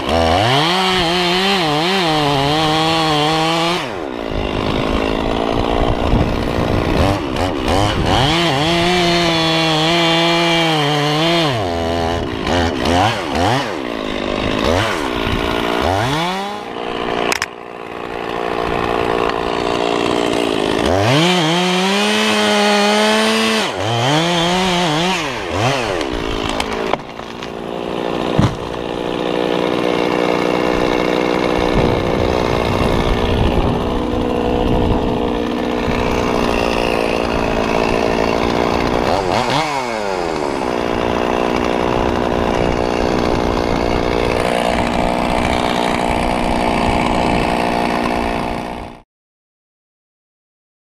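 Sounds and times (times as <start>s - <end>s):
chainsaw cutting wood: 0.0s - 49.0s.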